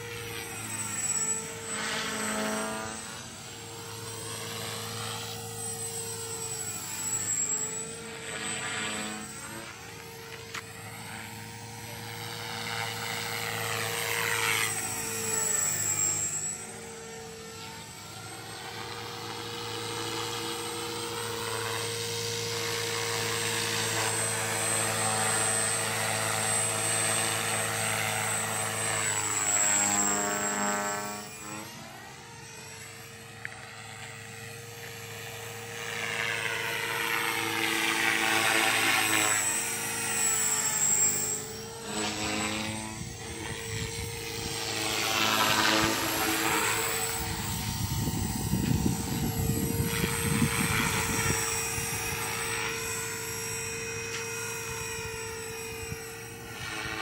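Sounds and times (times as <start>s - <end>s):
rc helicopter rotor whine: 0.0s - 57.0s.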